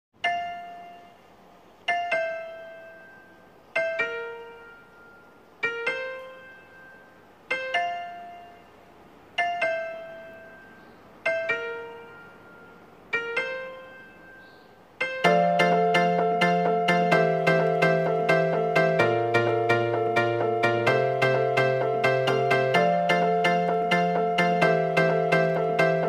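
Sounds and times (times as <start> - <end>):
slow piano chords: 0.2 - 26.0.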